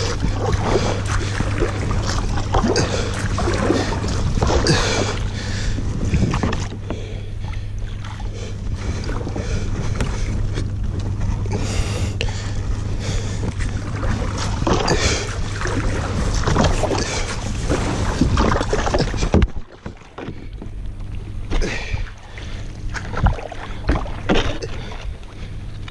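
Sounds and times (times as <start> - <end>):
paddle strokes splashing: 0.0 - 25.9
water washing past hull: 0.0 - 25.9.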